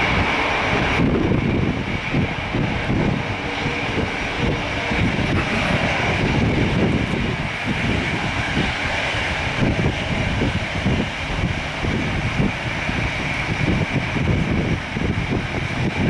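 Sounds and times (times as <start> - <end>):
jet engine high whine: 0.0 - 16.0
low engine rumble: 0.0 - 16.0.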